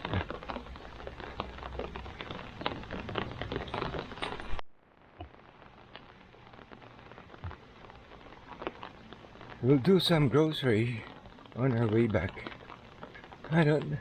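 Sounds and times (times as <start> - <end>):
rain drops tapping: 0.0 - 14.0.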